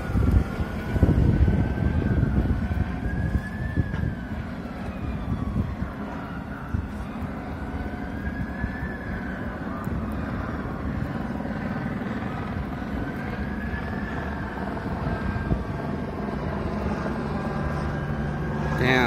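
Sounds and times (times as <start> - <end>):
distant siren wailing: 0.0 - 19.0
steady low rumble: 0.0 - 19.0.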